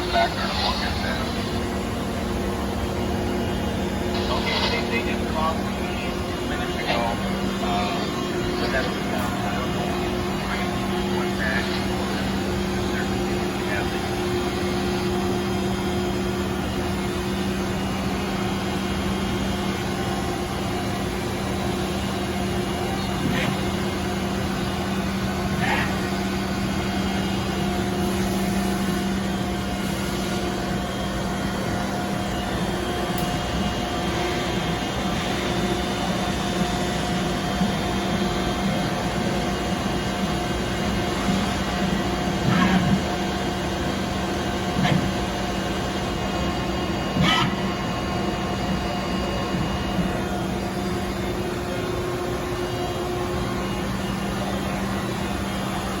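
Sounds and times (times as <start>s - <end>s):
shop machinery humming: 0.0s - 56.0s.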